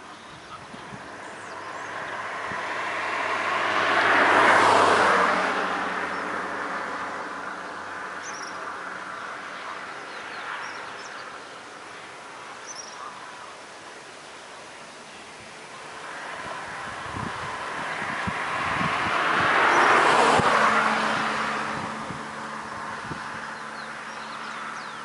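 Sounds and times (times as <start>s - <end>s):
vehicle passing by: 0.9s - 12.2s, 15.7s - 25.0s.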